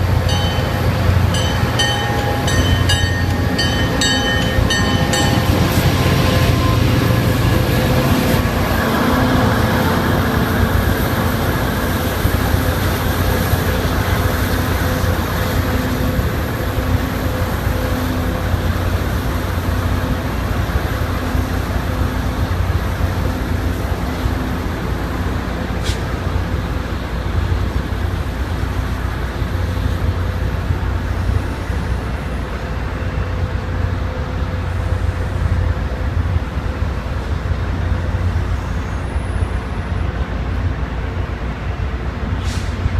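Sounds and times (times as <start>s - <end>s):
diesel locomotive engine drone: 0.0s - 42.9s.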